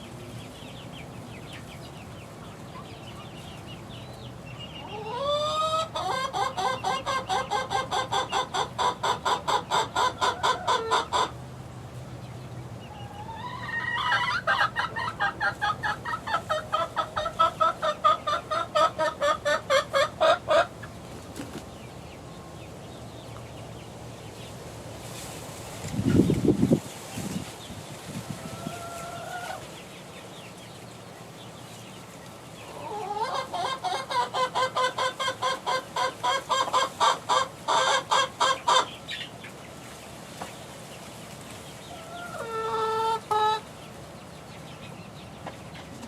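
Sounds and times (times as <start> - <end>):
young chicken clucking: 0.5 - 24.5, 25.8 - 40.7, 41.3 - 46.0.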